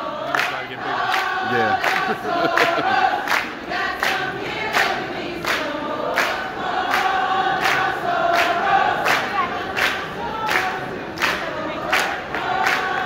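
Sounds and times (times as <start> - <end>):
women singing in unison: 0.0 - 13.0
hand claps: 0.3 - 13.0.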